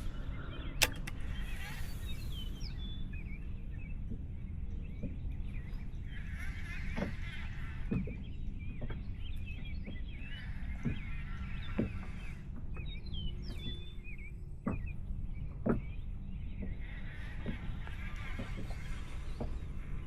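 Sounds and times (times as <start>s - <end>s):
birds chirping and singing: 0.0s - 20.0s
steady low rumble: 0.0s - 20.0s.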